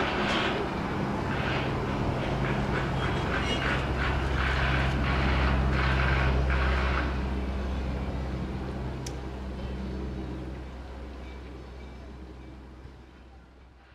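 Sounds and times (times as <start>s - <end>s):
low engine-like drone: 0.0s - 13.9s.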